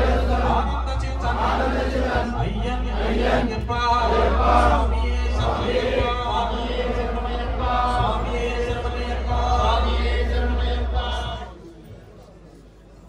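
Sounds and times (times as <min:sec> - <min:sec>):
men chanting together: 0:00.0 - 0:11.5.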